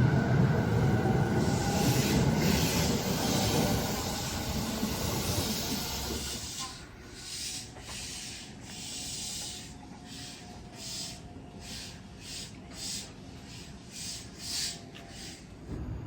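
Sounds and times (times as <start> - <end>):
train compressed air hissing: 1.4 - 15.7.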